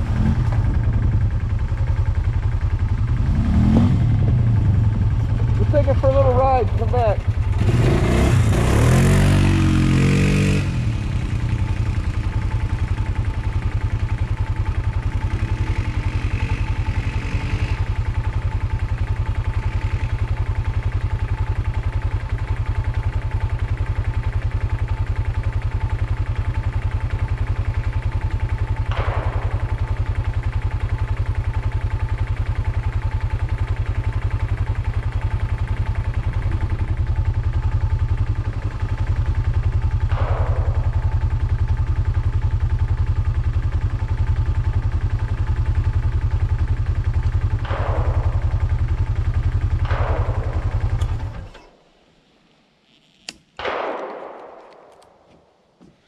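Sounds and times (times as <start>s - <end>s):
atv engine rumbling: 0.0s - 55.0s.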